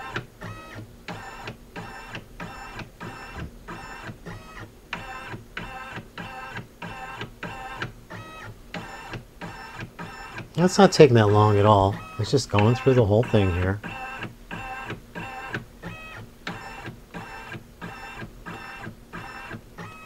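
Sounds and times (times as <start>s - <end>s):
pulsing motor whine: 0.0s - 20.0s.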